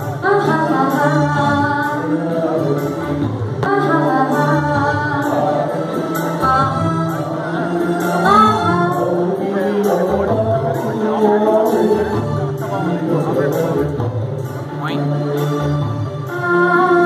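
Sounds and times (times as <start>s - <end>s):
woman and man singing duet: 0.0s - 13.9s, 14.7s - 17.0s
musical accompaniment: 0.0s - 17.0s.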